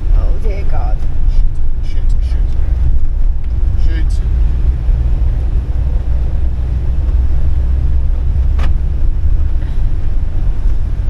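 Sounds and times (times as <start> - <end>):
motorhome engine rumbling: 0.0 - 11.0.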